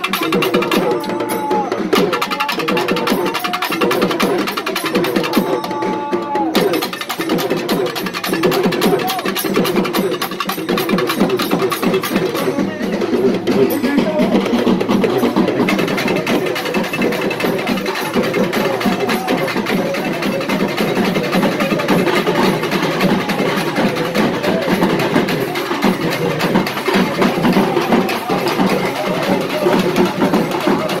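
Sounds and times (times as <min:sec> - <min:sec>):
music with rapid drumming: 0:00.0 - 0:31.0.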